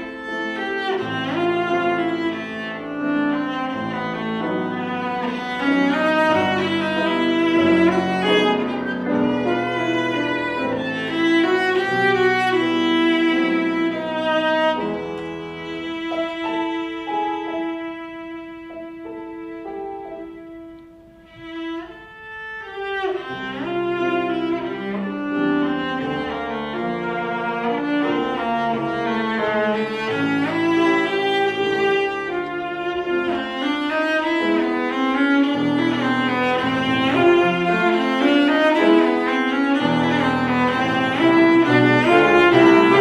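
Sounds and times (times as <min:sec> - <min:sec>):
cello: 0:00.0 - 0:43.0
grand piano: 0:00.0 - 0:43.0.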